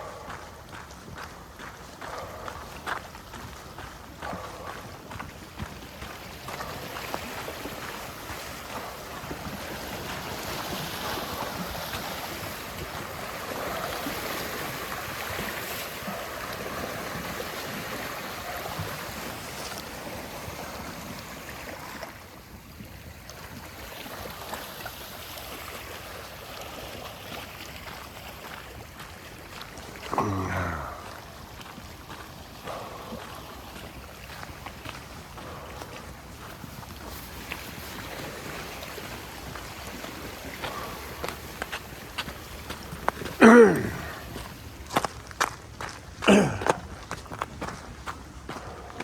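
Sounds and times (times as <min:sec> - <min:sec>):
waves washing through ice: 0:00.0 - 0:49.0.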